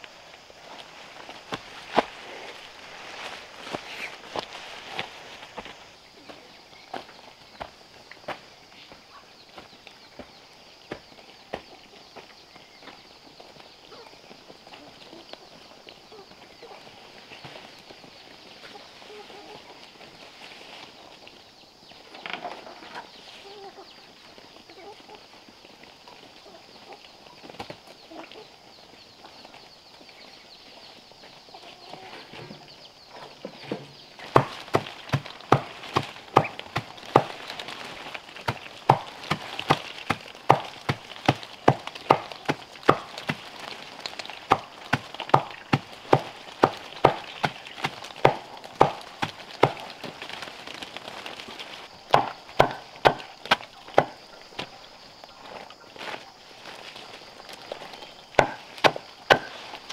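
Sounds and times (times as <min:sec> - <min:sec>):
faint fowl calls: 0:01.4 - 0:21.2, 0:21.9 - 0:50.5.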